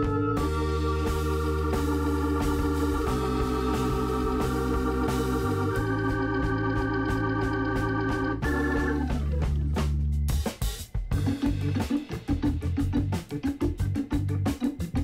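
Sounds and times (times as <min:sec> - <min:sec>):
organ-like keyboard chords: 0:00.0 - 0:15.0
steady drum beat: 0:00.0 - 0:15.0.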